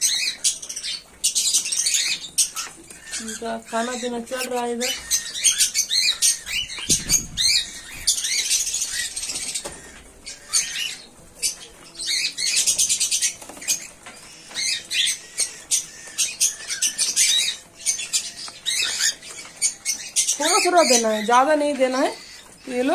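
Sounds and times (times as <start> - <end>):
cockatiels chirping and squawking: 0.0 - 22.9.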